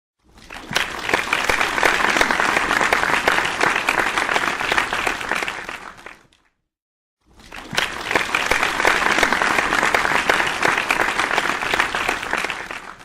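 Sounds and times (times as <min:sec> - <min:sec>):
crowd applauding: 0:00.4 - 0:06.4, 0:07.3 - 0:13.0.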